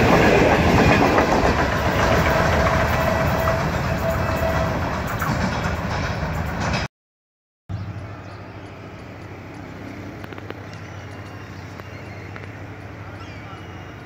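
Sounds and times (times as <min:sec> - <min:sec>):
diesel locomotive engine hum: 0:00.0 - 0:06.9, 0:07.7 - 0:14.0.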